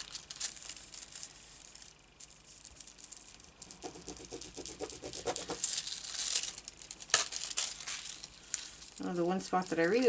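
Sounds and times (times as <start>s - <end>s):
metallic foil crinkling: 0.0s - 10.0s.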